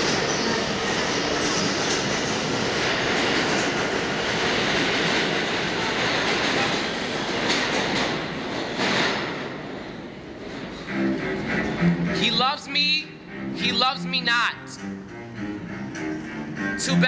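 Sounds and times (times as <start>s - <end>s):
subway train wheels on rails: 0.0s - 17.0s.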